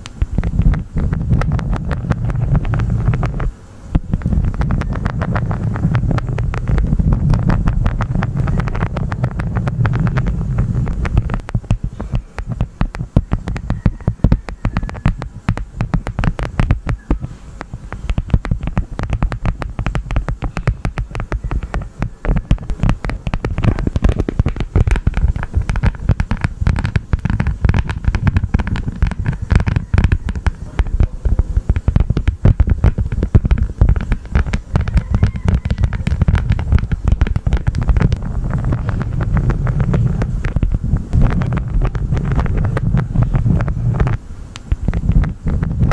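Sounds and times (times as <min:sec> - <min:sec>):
honeycomb crackling: 0:00.0 - 0:45.9.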